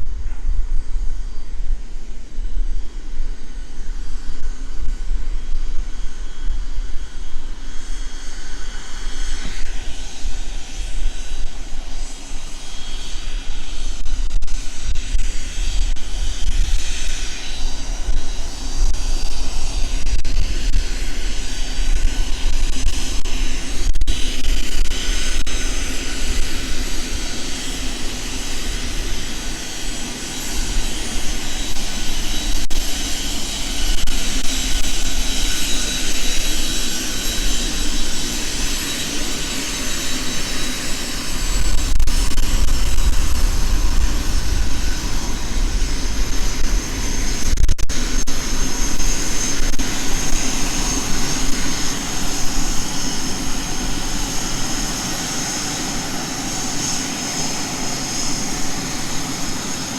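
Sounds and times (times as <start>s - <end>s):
aircraft engines whine and rumble: 0.0s - 59.9s.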